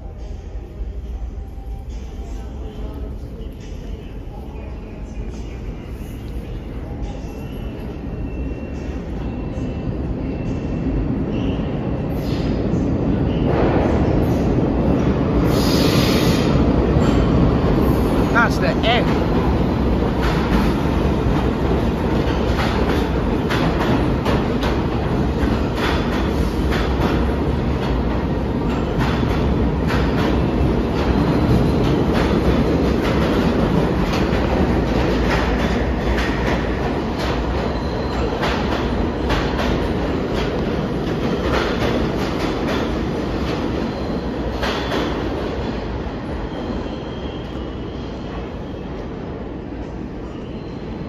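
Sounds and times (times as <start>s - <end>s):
subway train rumbling past: 0.0s - 51.0s.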